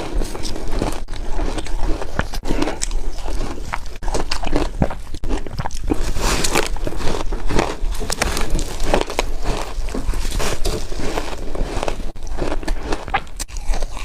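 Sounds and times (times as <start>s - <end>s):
chewing crunchy ice: 0.0s - 14.0s.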